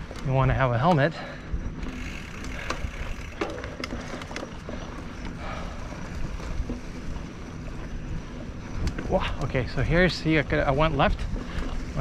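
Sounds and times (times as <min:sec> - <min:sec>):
bike rattling over bumps: 0:00.0 - 0:12.0
bike tyre and drivetrain noise: 0:00.0 - 0:12.0.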